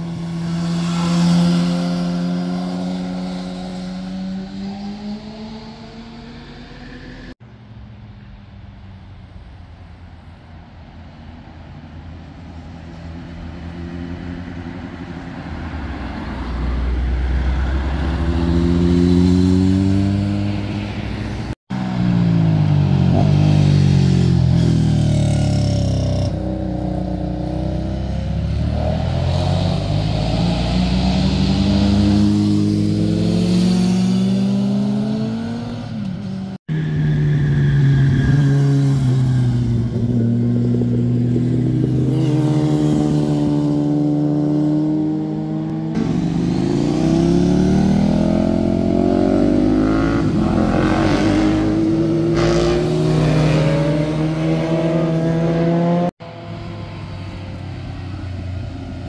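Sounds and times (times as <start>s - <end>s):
motorcycle engines accelerating: 0.0s - 7.4s, 16.8s - 59.0s.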